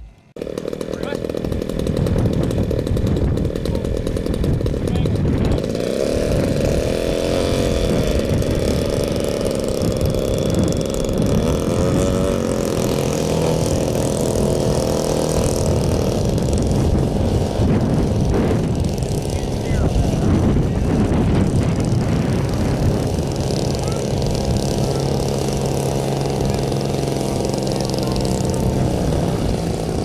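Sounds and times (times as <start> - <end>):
model airplane engine running: 0.0 - 30.0.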